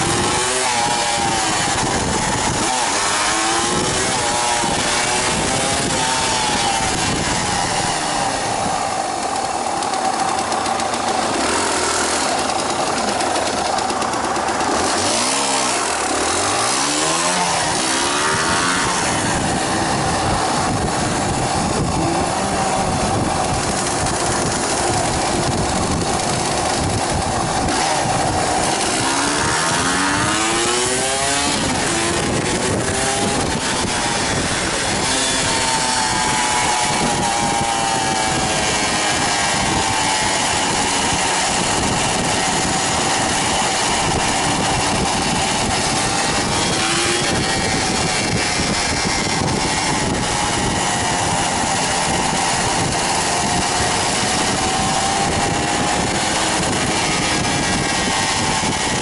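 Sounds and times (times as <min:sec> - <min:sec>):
steady rushing noise: 0:00.0 - 0:59.0
two-stroke motorcycle engine revving: 0:00.0 - 0:59.0.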